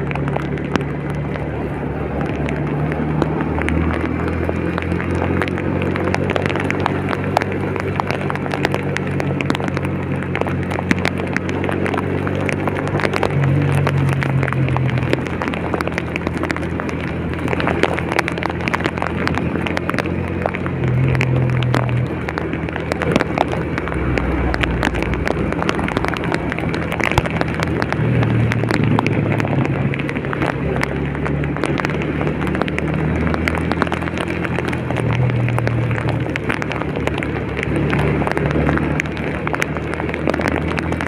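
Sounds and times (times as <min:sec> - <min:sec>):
raindrops ticking on vehicle: 0:00.0 - 0:41.0
vehicle engine humming: 0:00.0 - 0:41.0.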